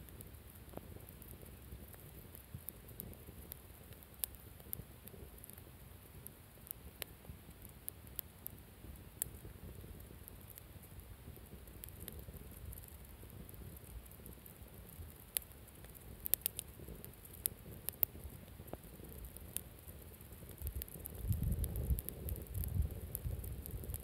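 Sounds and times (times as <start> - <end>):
campfire crackling and popping: 0.0 - 24.0
low steady rumble: 0.0 - 24.0.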